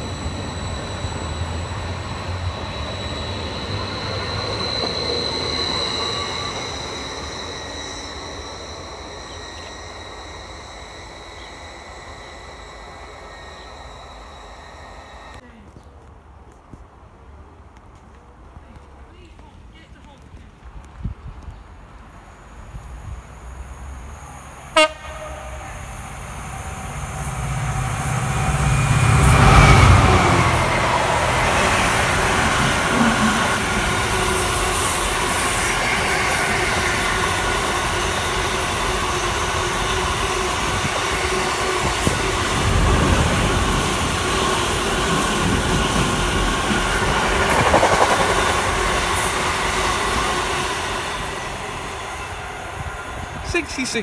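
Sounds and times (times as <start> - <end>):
diesel locomotive engine rumble: 0.0 - 16.3, 18.4 - 54.0.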